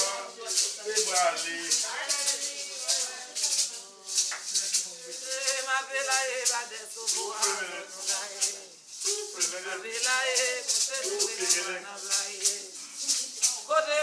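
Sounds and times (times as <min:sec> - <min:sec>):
rattle shaken in a steady beat: 0:00.0 - 0:14.0
voices singing a chant: 0:00.0 - 0:14.0.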